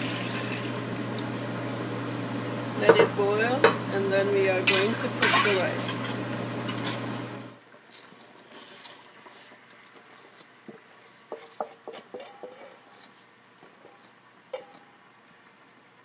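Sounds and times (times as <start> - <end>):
hot pot hissing and sizzling: 0.0 - 15.0.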